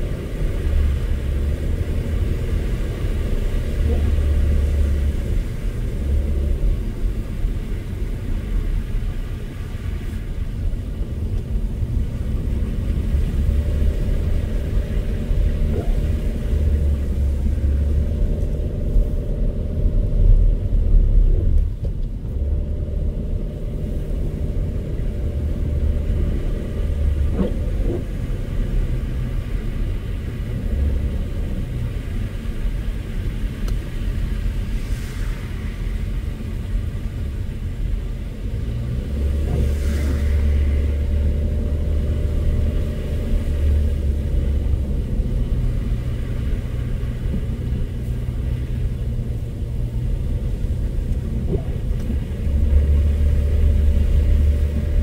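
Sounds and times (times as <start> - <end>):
car driving on snow: 0.0 - 55.0.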